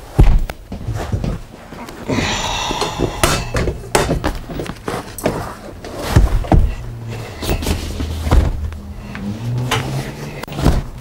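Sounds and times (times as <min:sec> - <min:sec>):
sofa bed frame clunking and thumping: 0:00.0 - 0:01.6, 0:02.8 - 0:11.0.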